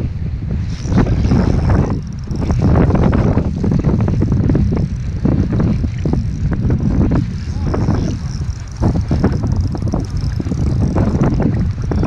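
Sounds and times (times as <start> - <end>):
choppy water: 0.0 - 12.0
wind buffeting microphone: 0.0 - 12.0.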